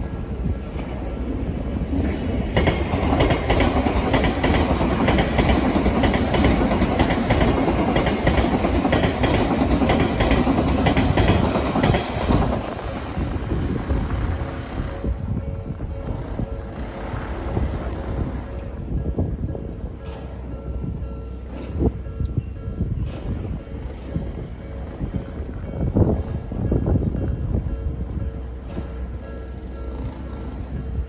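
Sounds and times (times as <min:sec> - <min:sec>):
train wheels clacking over rails: 0:00.0 - 0:31.0.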